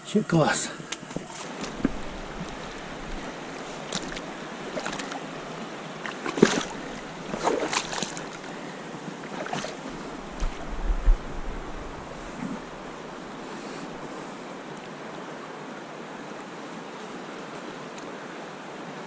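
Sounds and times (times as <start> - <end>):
river water rushing: 1.1 - 19.0.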